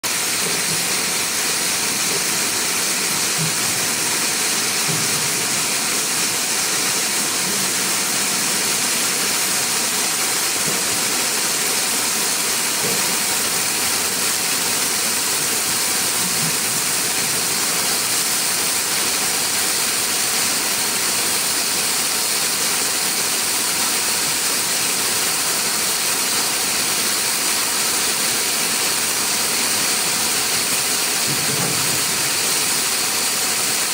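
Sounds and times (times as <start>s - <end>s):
sprinkler spraying water: 0.1s - 33.9s.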